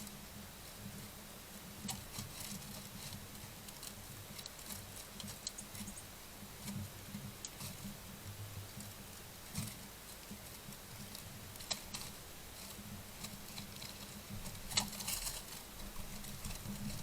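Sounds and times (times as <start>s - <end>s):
birds rustling in dry leaves: 0.0s - 17.0s.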